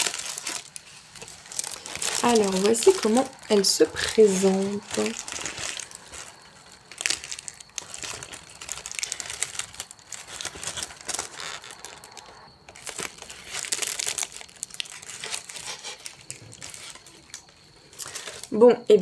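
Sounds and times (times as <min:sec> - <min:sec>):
dry flowers and cardboard crinkling: 0:00.0 - 0:19.0.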